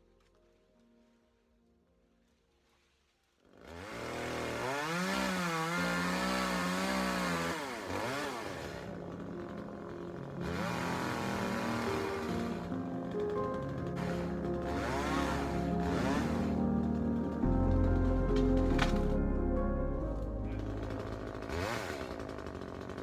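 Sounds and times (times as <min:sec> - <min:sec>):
chainsaw running: 0:03.4 - 0:23.0.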